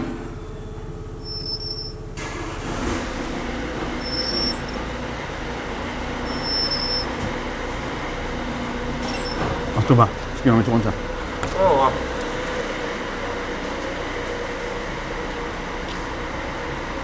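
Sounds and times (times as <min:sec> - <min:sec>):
brake squealing: 0:00.0 - 0:17.0
steady low running noise: 0:03.0 - 0:17.0.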